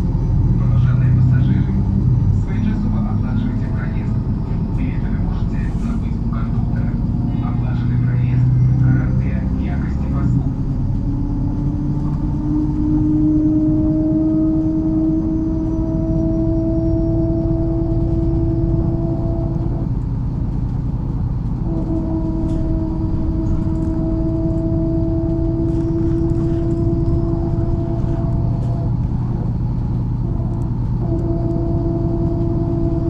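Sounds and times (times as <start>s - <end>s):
bus engine rumbling: 0.0s - 33.0s
driveline whine: 0.3s - 33.0s.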